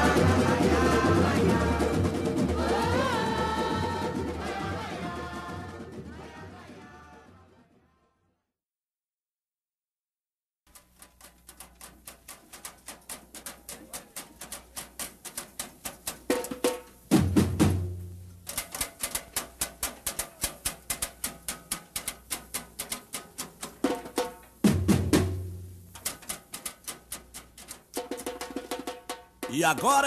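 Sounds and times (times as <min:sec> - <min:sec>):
samba drum section: 0:00.0 - 0:08.0, 0:12.9 - 0:30.0.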